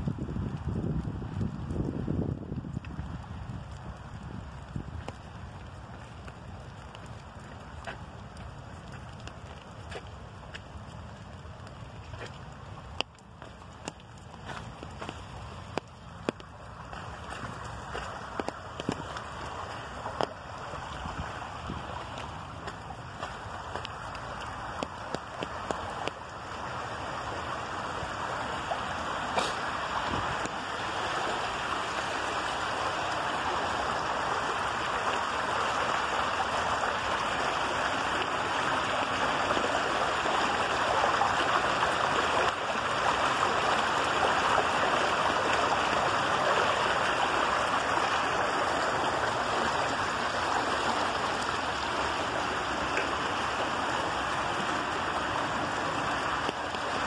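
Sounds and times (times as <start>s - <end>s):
water rushing down a concrete channel: 0.0s - 57.0s
water splashing over a brick: 0.4s - 57.0s.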